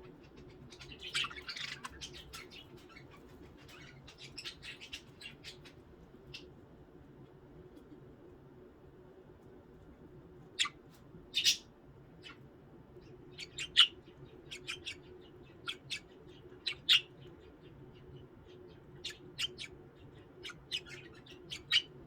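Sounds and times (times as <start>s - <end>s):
budgerigars chirping and squawking: 0.1s - 6.5s, 10.6s - 22.0s.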